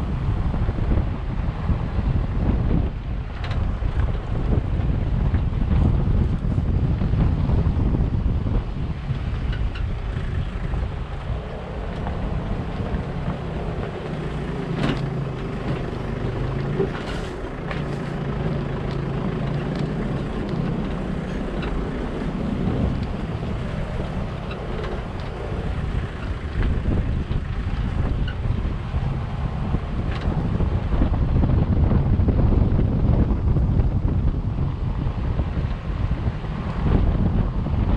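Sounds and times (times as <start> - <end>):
vehicle engine humming: 0.0 - 37.9
wind buffeting microphone: 0.0 - 37.9.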